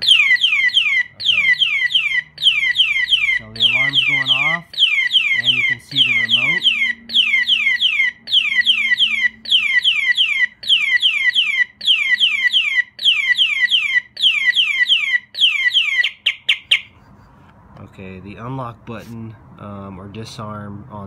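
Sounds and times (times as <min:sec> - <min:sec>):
motorcycle alarm siren whooping: 0:00.0 - 0:16.9
alarm chirps: 0:00.0 - 0:17.0.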